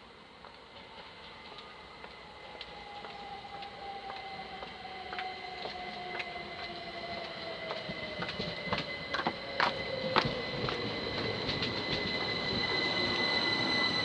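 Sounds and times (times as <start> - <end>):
train whine: 0.0 - 14.0.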